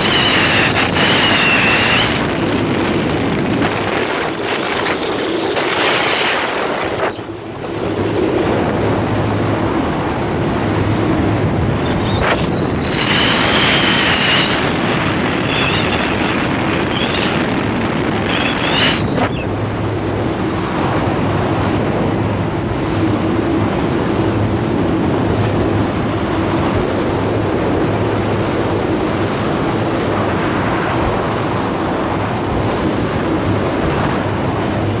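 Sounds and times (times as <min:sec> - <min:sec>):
powerboat engine droning: 0:00.0 - 0:35.0
rush of boat wake: 0:00.0 - 0:35.0
wind buffeting microphone: 0:00.0 - 0:35.0.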